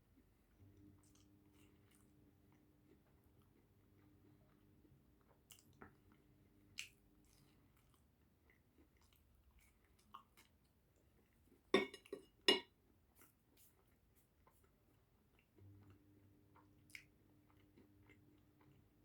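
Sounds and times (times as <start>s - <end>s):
soft chewing with clicks: 0.0s - 19.0s.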